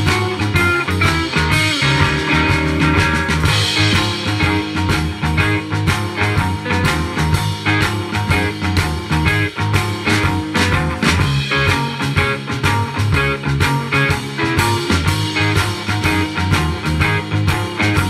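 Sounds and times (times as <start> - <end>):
rock music through speakers: 0.0 - 18.0.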